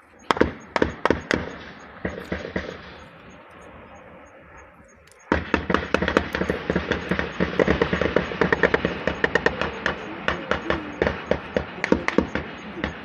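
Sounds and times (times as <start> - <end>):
rapid gunfire: 0.0 - 4.0, 5.2 - 13.0.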